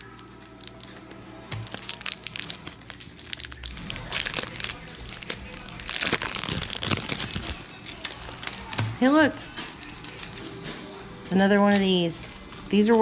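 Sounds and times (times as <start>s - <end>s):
wrapper crinkling and tearing: 0.0s - 10.6s, 11.8s - 13.0s.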